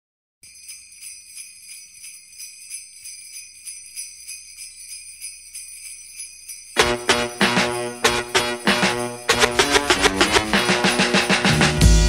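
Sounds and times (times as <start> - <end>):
sleigh bells jingling: 0.4 - 12.0.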